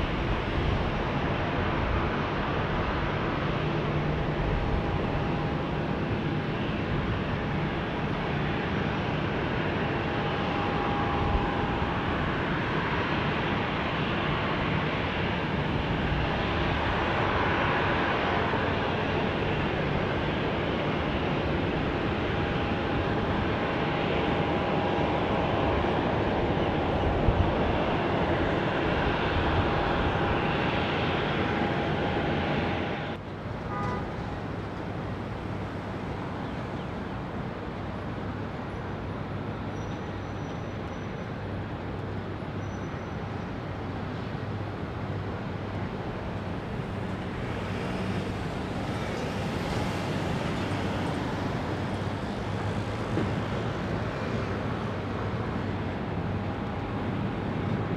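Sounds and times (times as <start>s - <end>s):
road traffic: 0.0s - 57.9s.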